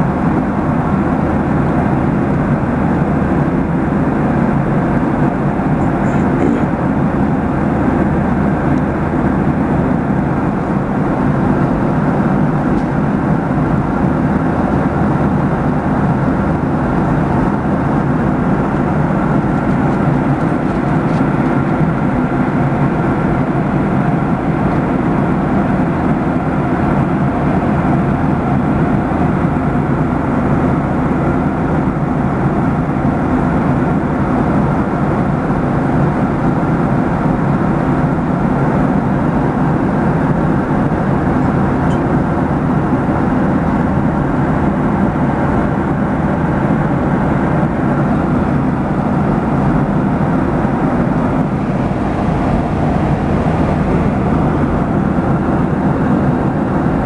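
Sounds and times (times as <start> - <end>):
airliner cabin engine rush: 0.0 - 57.0.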